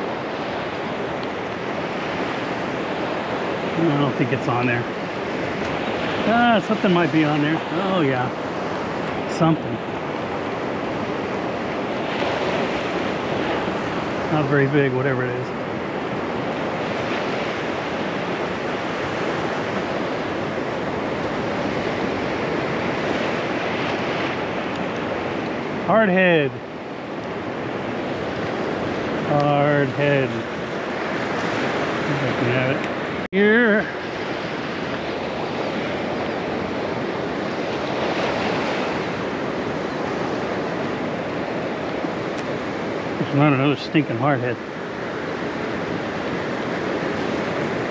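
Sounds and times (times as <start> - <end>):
ocean surf breaking on sand: 0.0 - 47.9
wind on microphone: 0.0 - 47.9.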